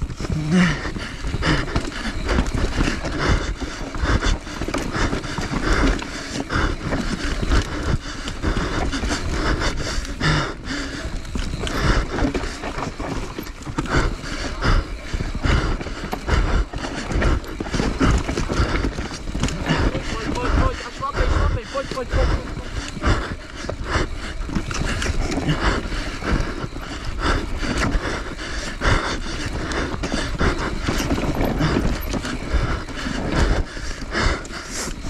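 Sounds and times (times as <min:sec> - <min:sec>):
knocks and rattles from bike: 0:00.0 - 0:35.0
rider breathing hard: 0:00.0 - 0:35.0.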